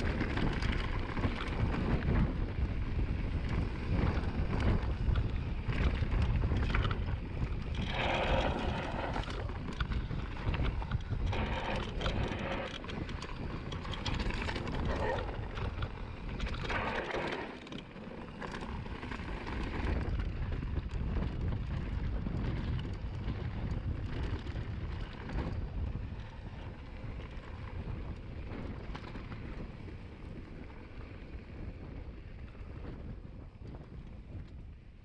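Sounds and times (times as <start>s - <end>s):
mountain bike rumble and rattle: 0.0s - 35.0s
wind buffeting microphone: 0.0s - 35.0s.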